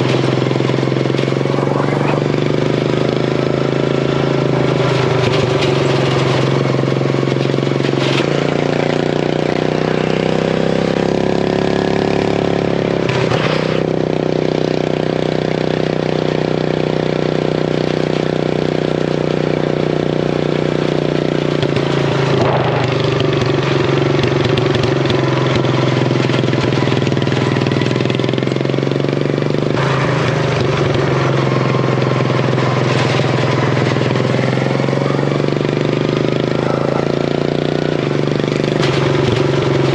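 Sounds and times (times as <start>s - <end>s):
mower engine revving: 0.0s - 39.9s.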